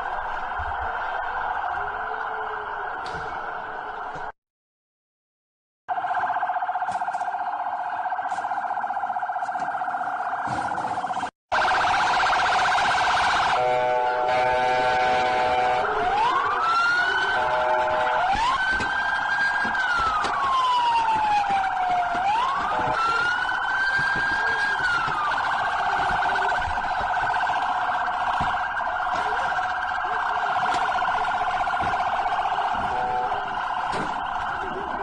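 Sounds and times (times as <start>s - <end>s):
police siren: 0.0s - 4.4s, 5.9s - 35.0s.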